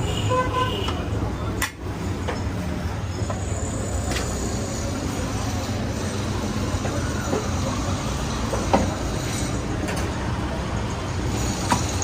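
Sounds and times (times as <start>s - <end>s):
low rumble of street noise: 0.0s - 12.0s.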